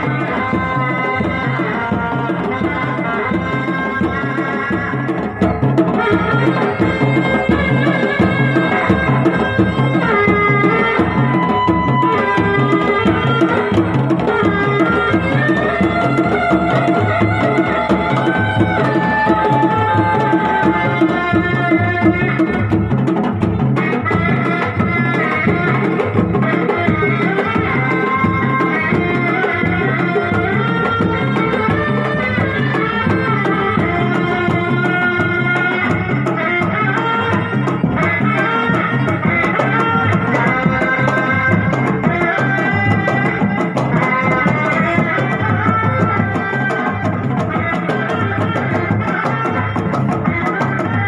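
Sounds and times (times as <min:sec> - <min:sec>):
fast traditional drumming: 0:00.0 - 0:51.0
shawm playing piercing melody: 0:00.0 - 0:51.0.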